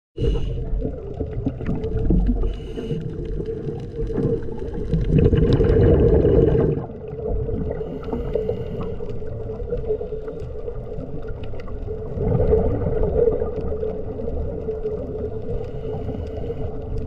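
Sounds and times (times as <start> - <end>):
regulator bubbles gurgling underwater: 0.2 - 17.0.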